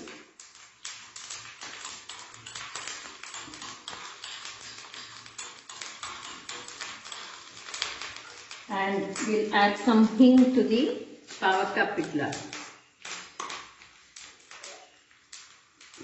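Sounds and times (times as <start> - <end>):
seeds crackling in hot oil: 0.0 - 16.0.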